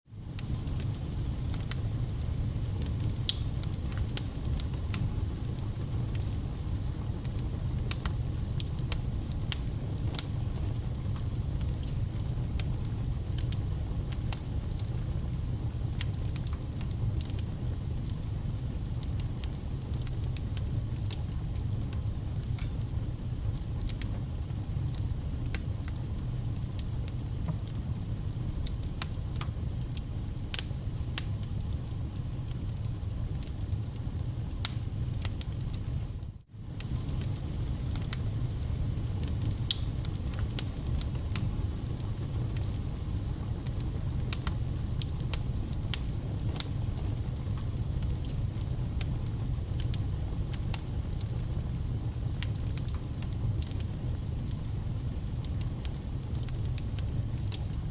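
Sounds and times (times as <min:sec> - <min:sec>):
fire crackling and popping: 0:00.2 - 0:57.9
wood fire rumbling: 0:00.2 - 0:57.9.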